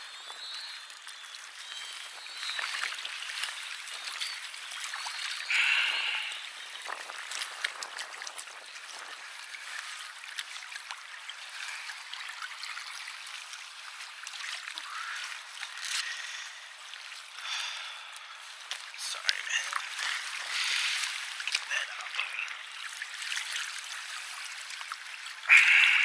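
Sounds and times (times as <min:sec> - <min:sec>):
river water lapping: 0:00.0 - 0:26.0
small splashes: 0:01.3 - 0:26.0.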